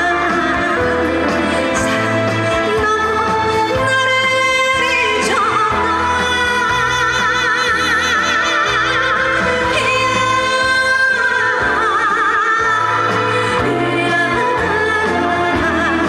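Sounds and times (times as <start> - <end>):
backing track with pulsing bass: 0.0 - 16.0
woman singing with vibrato: 0.0 - 16.0.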